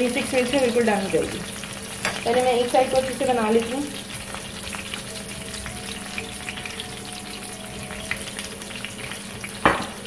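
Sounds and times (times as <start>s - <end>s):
fish sizzling in a frying pan: 0.0s - 10.0s.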